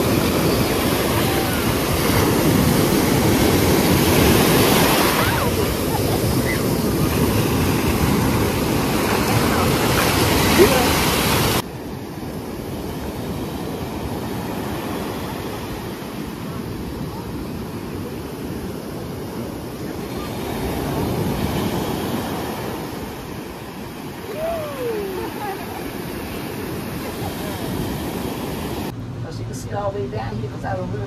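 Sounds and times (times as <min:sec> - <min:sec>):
ocean surf washing: 0:00.0 - 0:31.0.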